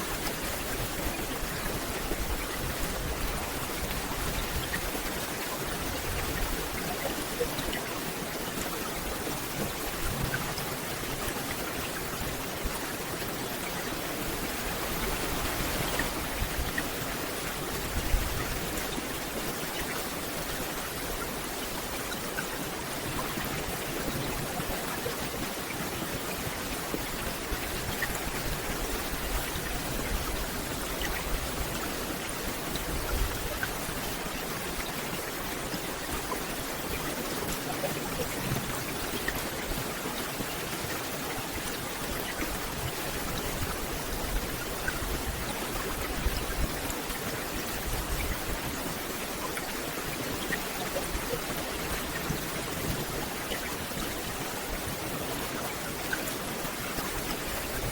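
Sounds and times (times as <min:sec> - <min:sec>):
rain on foliage: 0:00.0 - 0:57.9.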